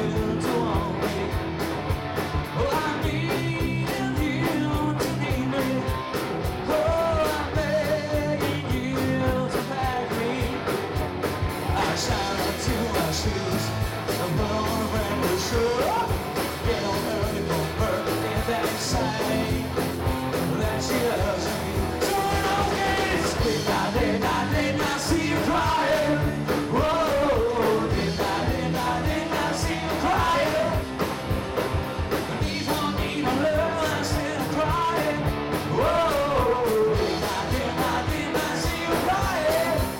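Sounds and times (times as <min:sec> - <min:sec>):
man singing: 0:00.0 - 0:01.6, 0:02.5 - 0:10.8, 0:11.7 - 0:31.0, 0:32.3 - 0:39.9
drums: 0:00.0 - 0:39.9
electric guitars: 0:00.0 - 0:39.9.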